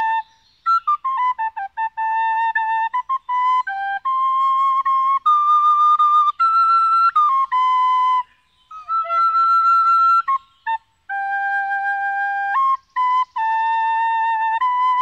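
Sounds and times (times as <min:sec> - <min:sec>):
flute playing slow melody: 0:00.0 - 0:15.0.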